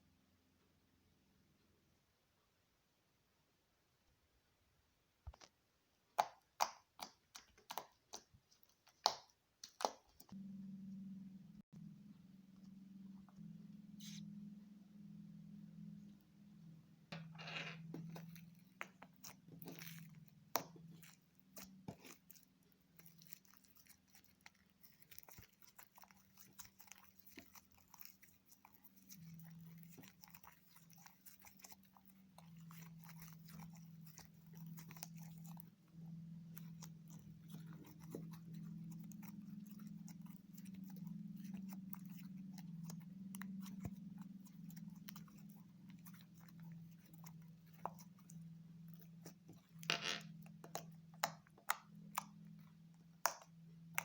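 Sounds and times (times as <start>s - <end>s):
faint low hum: 10.2s - 54.0s.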